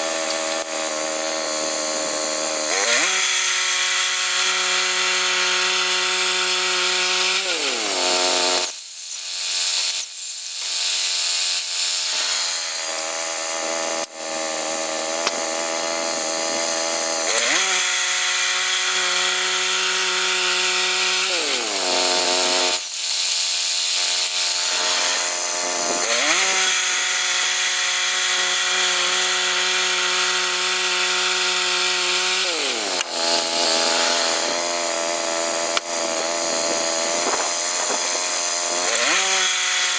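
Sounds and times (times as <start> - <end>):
saw engine cutting log: 0.0 - 39.9.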